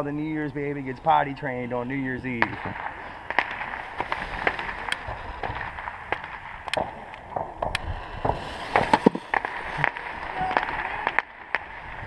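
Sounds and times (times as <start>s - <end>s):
distant firecrackers popping: 0.0s - 12.0s
fuse sparking and sputtering: 2.2s - 12.0s.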